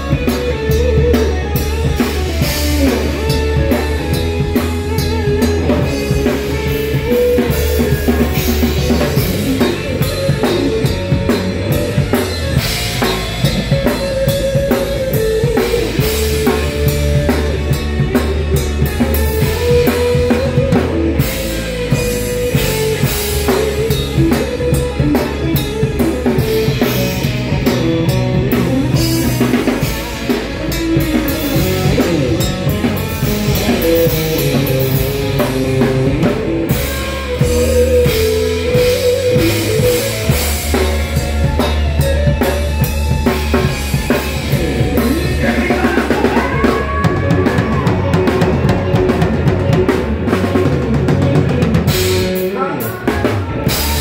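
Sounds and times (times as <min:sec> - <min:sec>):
drum kit cymbals and snare: 0:00.0 - 0:54.0
electric bass: 0:00.0 - 0:54.0
keyboards: 0:00.0 - 0:54.0.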